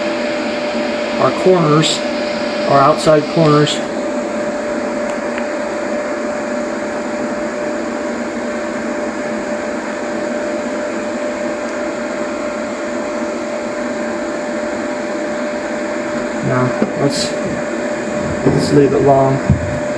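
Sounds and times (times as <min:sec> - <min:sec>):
machine whirring hum: 0:00.0 - 0:19.9.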